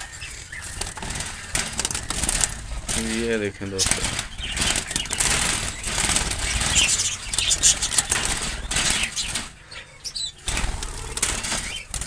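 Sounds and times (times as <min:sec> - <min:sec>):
budgerigar wings flapping: 0:00.0 - 0:09.6, 0:10.4 - 0:12.0.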